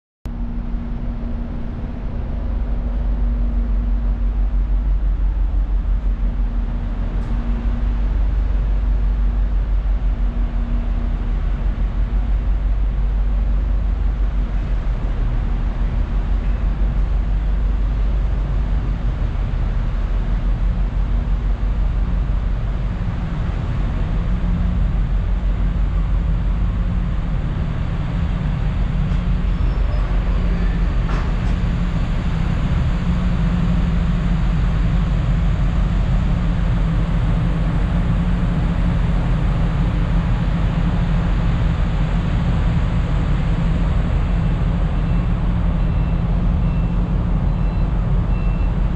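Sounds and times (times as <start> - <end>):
ferry engine rumble: 0.3 - 48.9.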